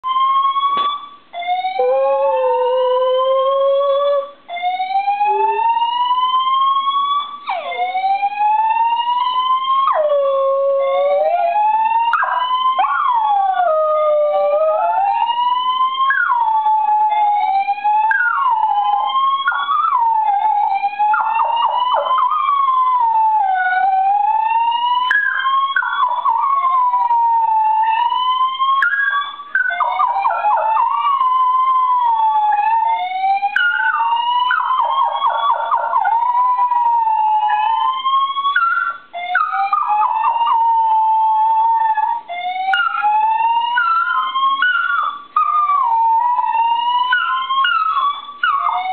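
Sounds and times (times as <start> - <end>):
fire alarm rising sweep: 0.0 - 10.2, 10.9 - 48.9
dog howling: 0.8 - 48.9.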